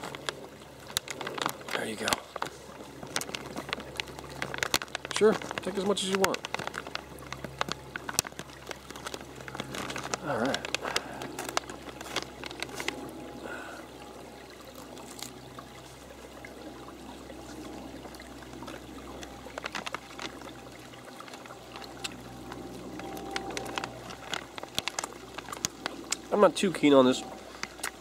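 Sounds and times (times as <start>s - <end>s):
stream trickling over rocks: 0.0s - 28.0s.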